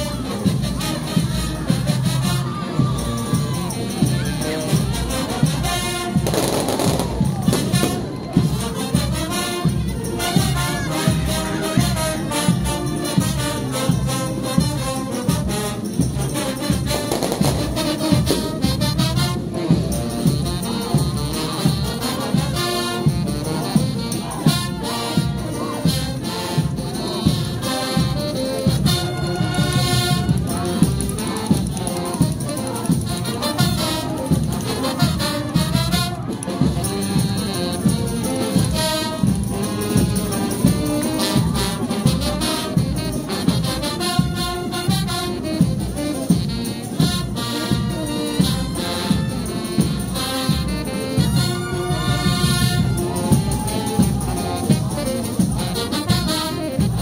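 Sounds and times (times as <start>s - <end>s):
trumpets and trombones: 0.0s - 57.0s
drums beating: 0.2s - 23.2s, 26.6s - 57.0s.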